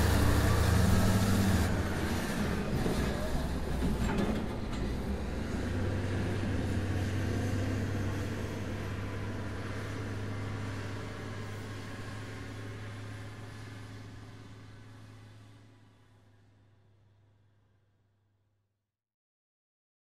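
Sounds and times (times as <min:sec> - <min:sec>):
diesel truck engine droning: 0:00.0 - 0:16.7.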